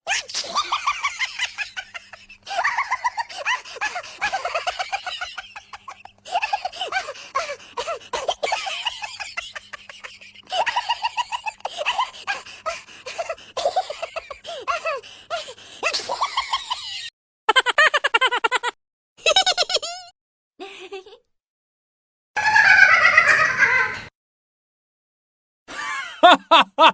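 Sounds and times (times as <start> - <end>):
recorded laughter: 0.1 - 21.3, 22.4 - 24.1, 25.7 - 26.9.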